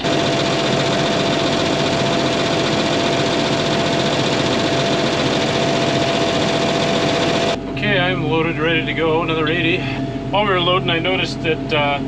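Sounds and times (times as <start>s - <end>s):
engine running steadily: 0.0s - 12.0s
steady hum: 0.0s - 12.0s.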